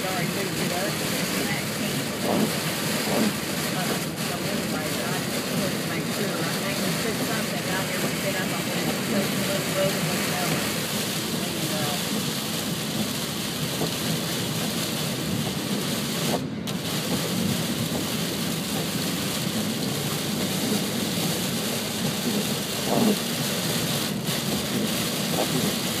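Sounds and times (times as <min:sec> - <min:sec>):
heavy rain pelting car: 0:00.0 - 0:26.0
tyre noise on wet road: 0:00.0 - 0:26.0
wind: 0:00.0 - 0:26.0.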